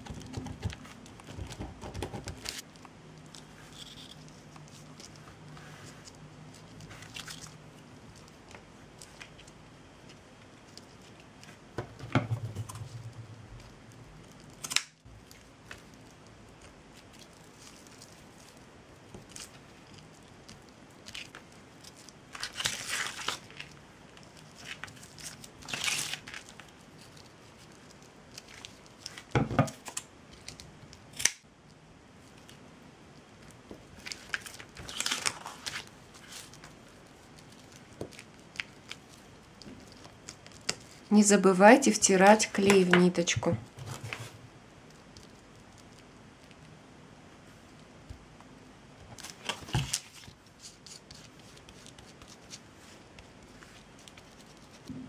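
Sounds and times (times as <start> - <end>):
twine rustling and crinkling: 0.0 - 46.8, 48.9 - 54.9.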